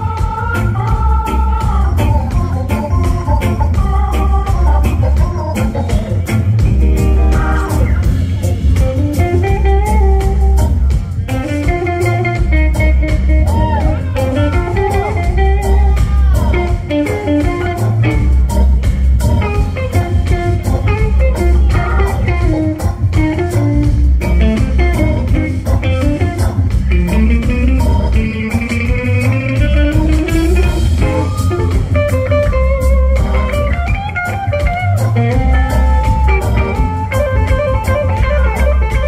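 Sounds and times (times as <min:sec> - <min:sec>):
drums: 0:00.0 - 0:39.0
electric guitar melody: 0:00.0 - 0:39.0
heavy pulsing bass: 0:00.0 - 0:39.0.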